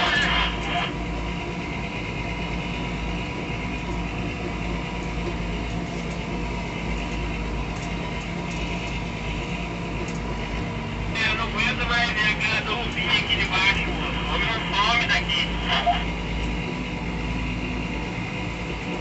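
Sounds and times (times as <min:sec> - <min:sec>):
harvester engines and machinery drone: 0:00.0 - 0:19.0.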